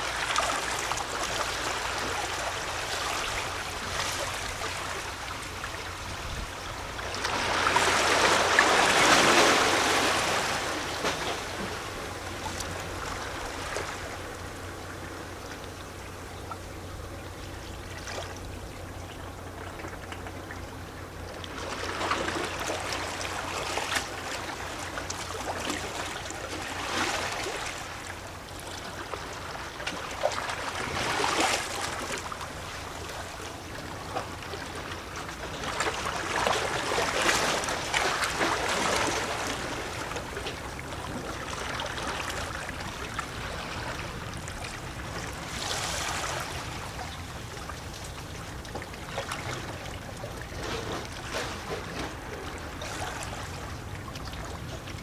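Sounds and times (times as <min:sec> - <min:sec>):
waves lapping against rocks: 0:00.0 - 0:55.0.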